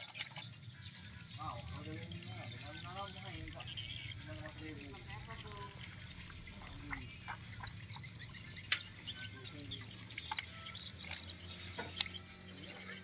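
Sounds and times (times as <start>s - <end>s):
faint distant voices: 0.9s - 13.0s.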